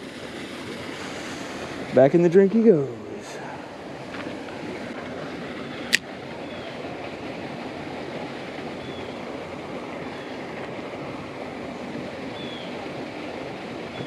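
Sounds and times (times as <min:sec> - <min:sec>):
outdoor noise haze: 0:00.0 - 0:14.0.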